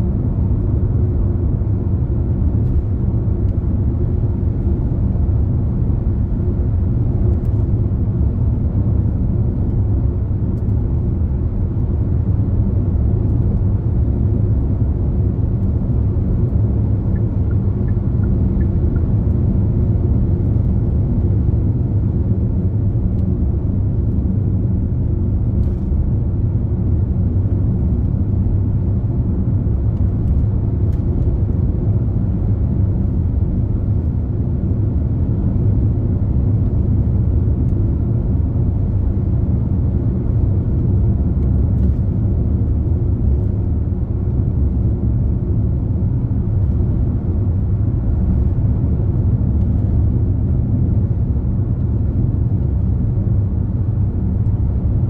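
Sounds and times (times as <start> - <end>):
car driving road noise: 0.0 - 55.0.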